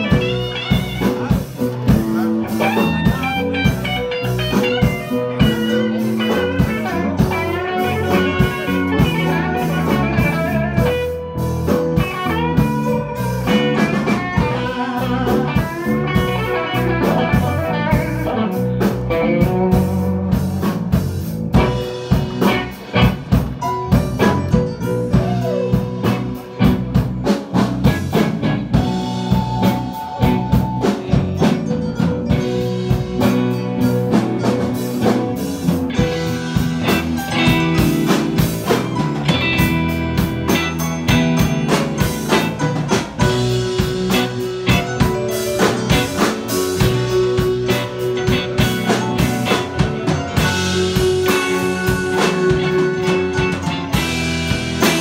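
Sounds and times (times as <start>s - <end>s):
drum kit: 0.0s - 55.0s
electric guitar lead lines: 0.0s - 55.0s.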